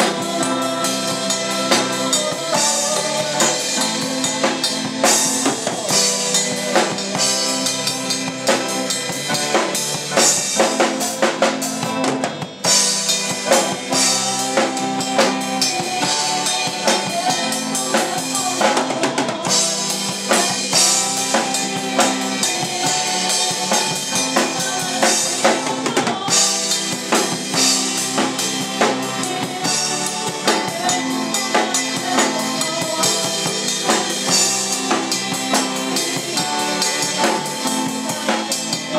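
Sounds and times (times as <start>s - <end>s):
band playing a song: 0.0s - 38.9s
drum kit beat: 0.0s - 38.9s.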